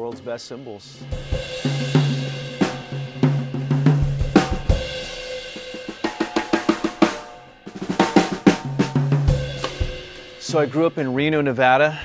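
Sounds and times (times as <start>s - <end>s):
drum kit playing: 0.0s - 11.8s
cymbals ringing: 1.0s - 11.5s
fast drum fill: 1.0s - 11.6s.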